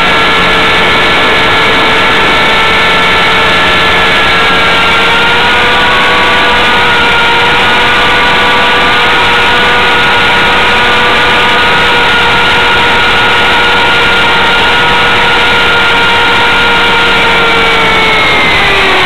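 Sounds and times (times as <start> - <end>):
rc helicopter motor whine: 0.0 - 19.0
rotors rushing: 0.0 - 19.0.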